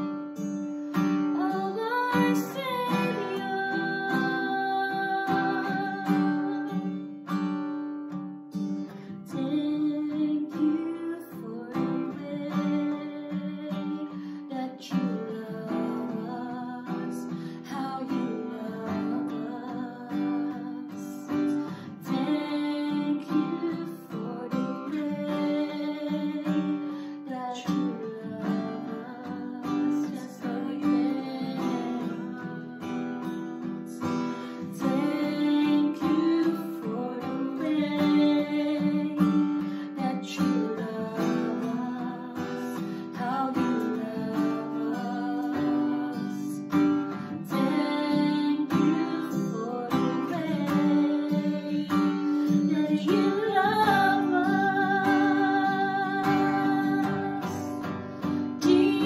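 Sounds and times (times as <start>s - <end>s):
acoustic guitar strumming: 0.0s - 59.0s
women singing: 1.3s - 7.2s, 9.2s - 59.0s.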